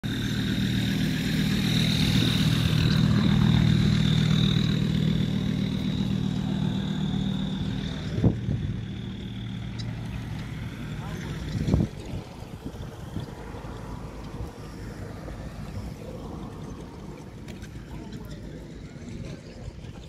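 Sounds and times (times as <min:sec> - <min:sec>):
diesel tractor engine idling: 0:00.0 - 0:20.0.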